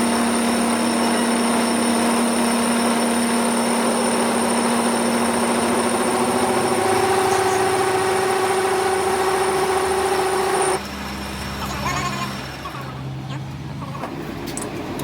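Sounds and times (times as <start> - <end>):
machine humming whine: 0.0 - 13.7.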